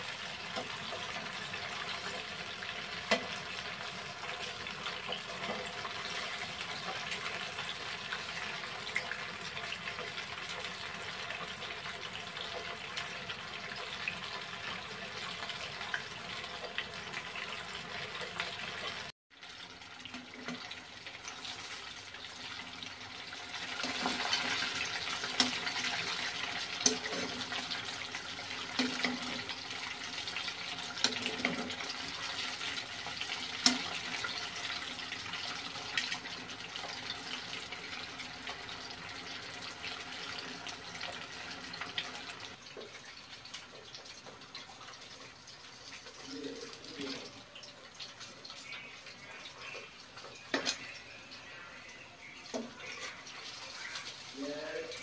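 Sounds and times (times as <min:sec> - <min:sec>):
oil frying hiss and crackle: 0:00.0 - 0:55.0.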